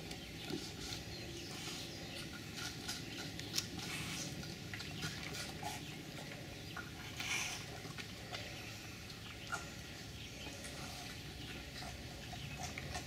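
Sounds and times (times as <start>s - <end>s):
bears chewing and smacking: 0.0s - 13.0s.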